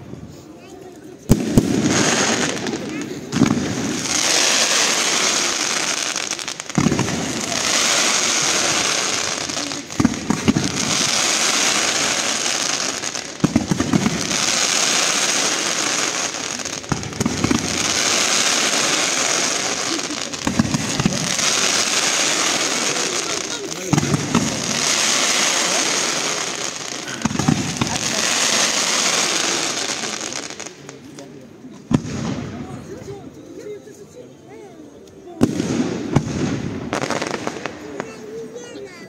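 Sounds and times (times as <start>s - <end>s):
firework crackling: 0.0s - 31.2s, 35.1s - 39.0s
firework bangs: 1.2s - 31.0s, 31.8s - 32.8s, 35.4s - 38.4s.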